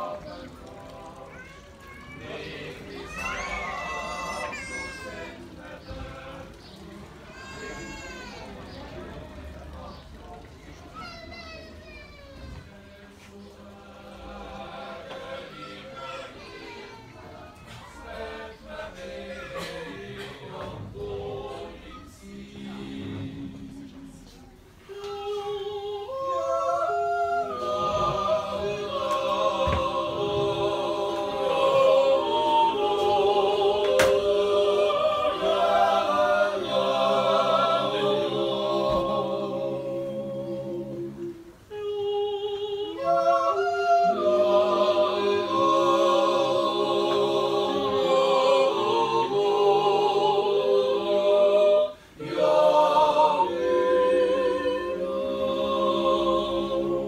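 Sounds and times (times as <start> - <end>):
men's choir singing a cappella: 0.0 - 1.4, 2.2 - 7.3, 8.7 - 10.5, 12.4 - 16.7, 17.3 - 57.0.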